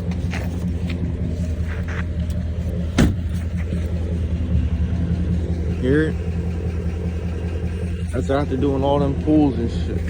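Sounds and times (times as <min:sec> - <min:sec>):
car engine idling: 0:00.0 - 0:10.0
faint engine ticks: 0:00.0 - 0:10.0.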